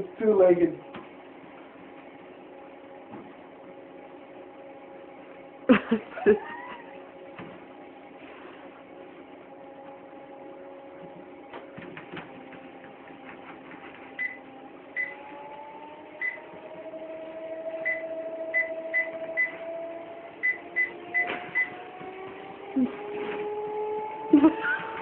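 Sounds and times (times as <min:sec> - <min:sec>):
treadmill motor whining: 0:00.8 - 0:25.0.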